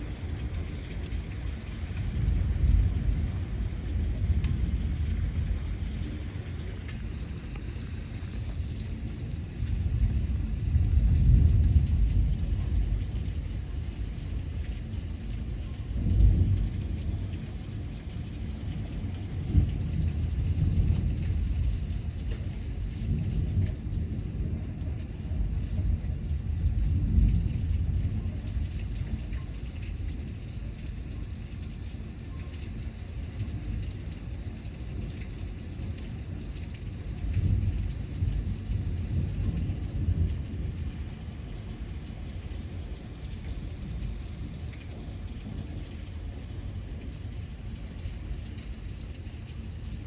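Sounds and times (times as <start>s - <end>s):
steady rain: 0.0s - 50.0s
thunder rumbles: 0.0s - 50.0s.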